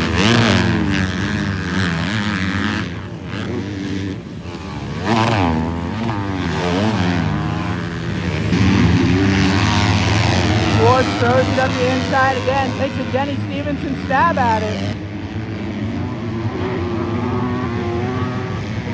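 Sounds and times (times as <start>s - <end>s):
motocross bikes revving: 0.0s - 18.9s.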